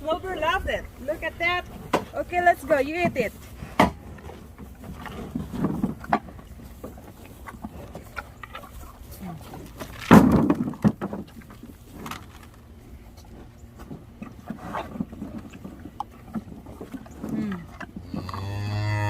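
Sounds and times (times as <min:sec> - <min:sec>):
cattle chewing and crunching: 0:00.0 - 0:19.0.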